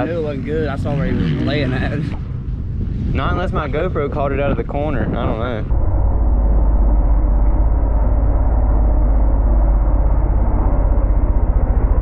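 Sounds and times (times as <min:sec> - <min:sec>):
distant dirt bike engines: 0:00.0 - 0:12.0
low rumble on microphone: 0:00.0 - 0:12.0.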